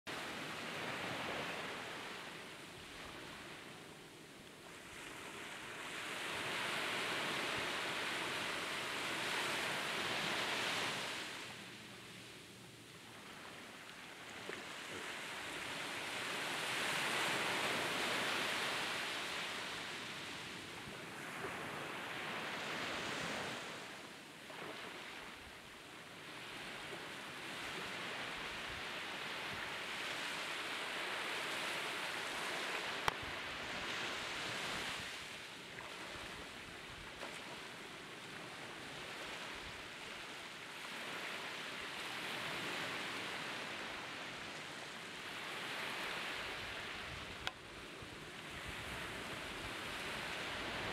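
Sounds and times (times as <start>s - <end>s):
waves washing up a beach: 0.1s - 50.9s.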